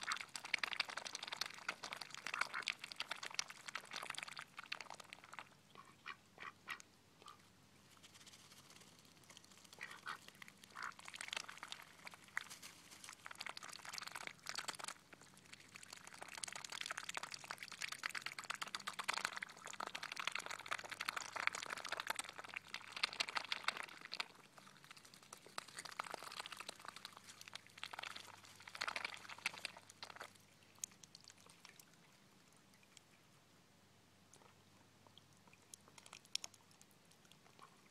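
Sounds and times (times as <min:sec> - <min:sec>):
ducks dabbling in water: 0:00.0 - 0:33.5, 0:34.2 - 0:37.9.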